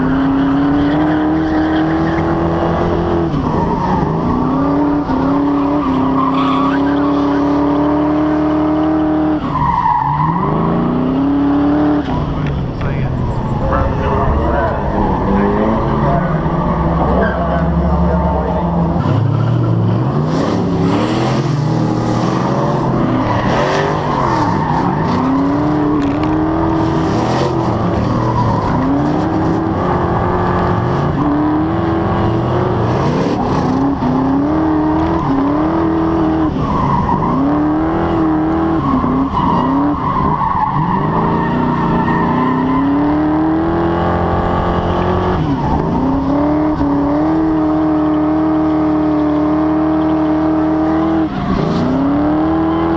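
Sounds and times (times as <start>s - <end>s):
car engine revving: 0.0s - 52.9s
tires squealing: 0.0s - 52.9s.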